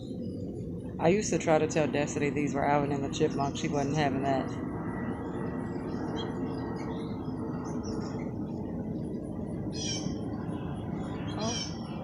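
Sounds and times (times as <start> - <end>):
steady hiss and rumble: 0.0 - 12.0.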